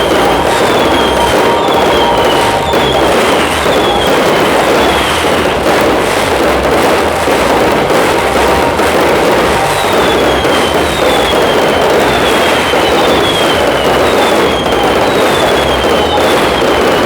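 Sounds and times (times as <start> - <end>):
fireworks bangs and crackle: 0.0 - 17.0
fireworks falling whistles: 0.0 - 17.0.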